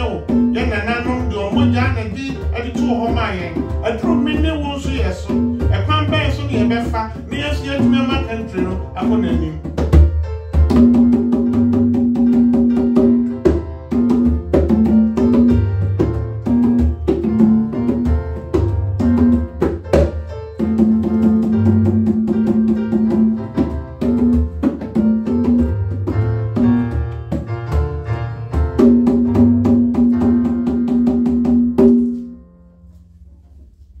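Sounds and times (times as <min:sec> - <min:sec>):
conga drums played by hand: 0:00.0 - 0:32.4.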